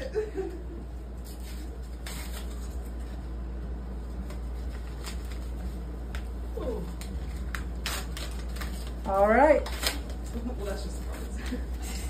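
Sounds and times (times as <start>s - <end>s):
paper rustling: 1.2s - 3.4s, 4.0s - 12.0s.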